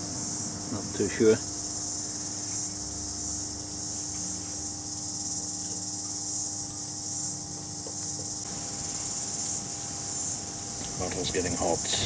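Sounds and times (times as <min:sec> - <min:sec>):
electric motor humming: 0:00.0 - 0:12.0
high-pitched chirring hiss: 0:00.0 - 0:12.0.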